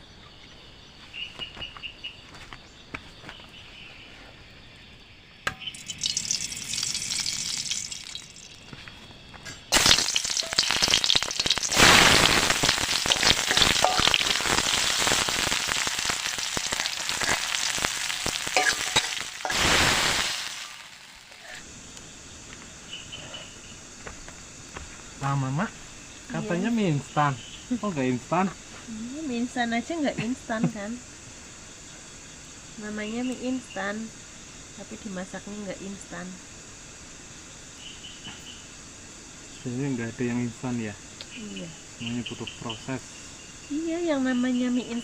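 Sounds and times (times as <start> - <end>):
wood fire hissing and crackling: 2.3 - 45.0.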